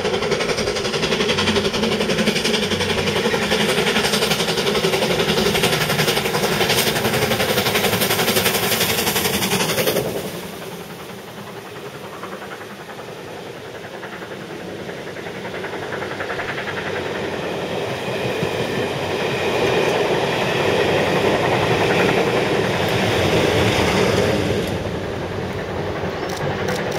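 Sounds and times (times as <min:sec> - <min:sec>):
train rumbling past: 0:00.0 - 0:26.9
train wheel clatter: 0:00.0 - 0:26.9.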